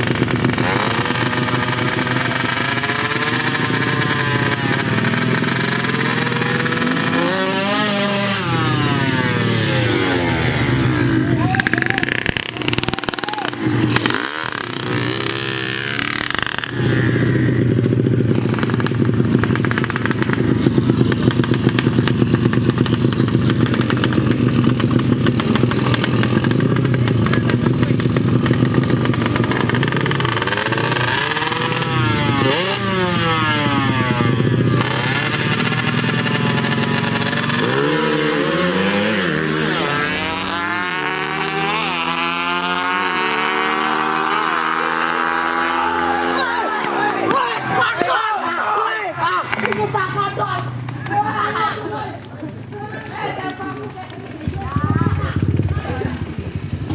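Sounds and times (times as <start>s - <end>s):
motorcycle engines revving hard: 0.0s - 56.9s.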